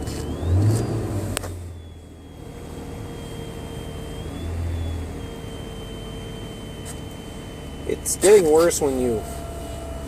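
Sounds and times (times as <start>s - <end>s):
car engine revving: 0.0s - 10.0s
high whine through radio: 1.5s - 10.0s.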